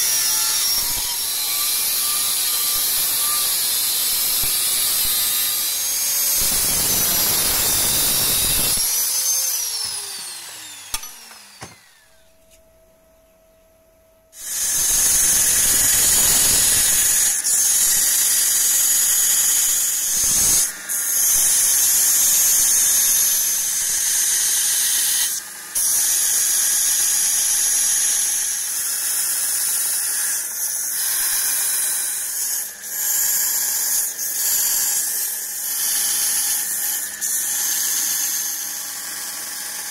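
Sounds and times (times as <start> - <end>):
angle grinder grinding steel: 0.0 - 12.2, 14.4 - 39.9
belt grinder grinding blade: 0.0 - 12.2, 14.4 - 39.9.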